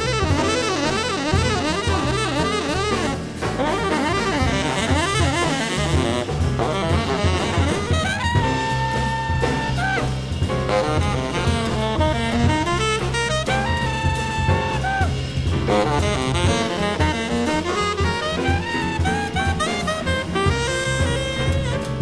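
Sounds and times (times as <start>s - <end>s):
double bass: 0.0s - 22.0s
drums: 0.0s - 22.0s
piano: 0.0s - 22.0s
tenor saxophone soloing: 0.0s - 22.0s.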